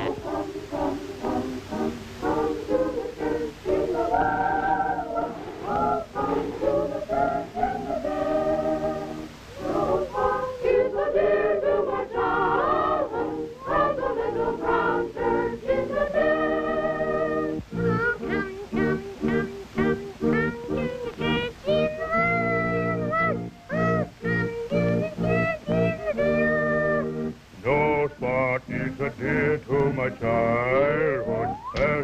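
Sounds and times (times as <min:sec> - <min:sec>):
choir singing with accompaniment: 0:00.0 - 0:32.0.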